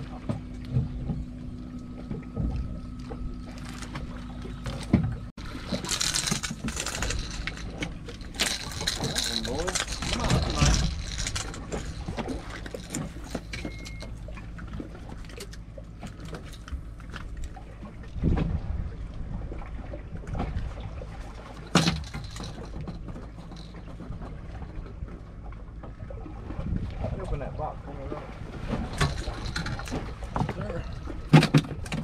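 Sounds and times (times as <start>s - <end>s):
boat motor humming: 0.0s - 32.0s
water noise: 0.0s - 32.0s.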